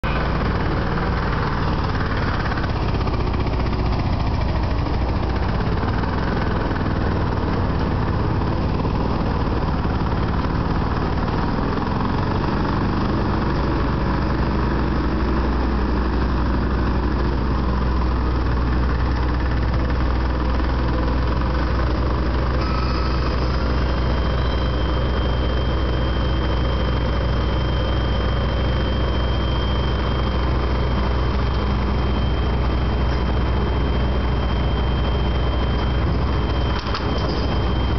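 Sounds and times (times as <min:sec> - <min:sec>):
engine running: 0:00.0 - 0:37.9
high whine of hopper raising: 0:00.0 - 0:37.9.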